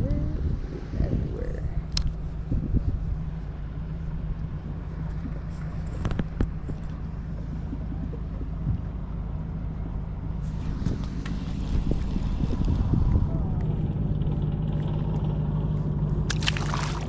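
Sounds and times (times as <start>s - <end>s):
boat engine rumble and hum: 0.0s - 17.0s.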